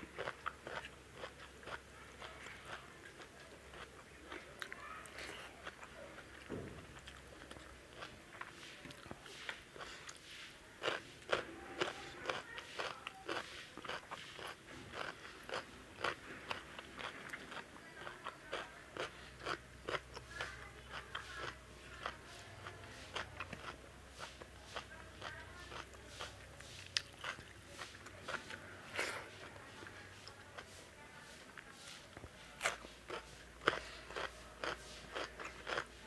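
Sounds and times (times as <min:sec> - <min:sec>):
food crunching: 0:00.0 - 0:30.7, 0:31.5 - 0:36.0
person chewing: 0:00.0 - 0:30.7, 0:32.2 - 0:36.0.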